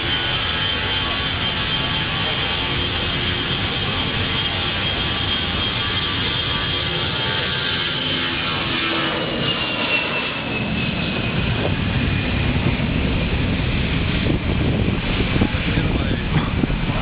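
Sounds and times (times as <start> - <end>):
airplane engine rumble: 0.0 - 17.0
airplane engine whine: 0.0 - 17.0.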